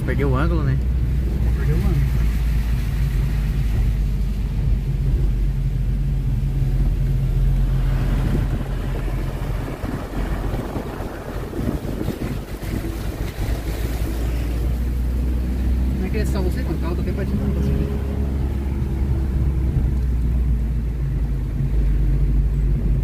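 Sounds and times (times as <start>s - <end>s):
car engine and road noise: 0.0s - 23.0s
wind buffeting microphone: 0.9s - 23.0s.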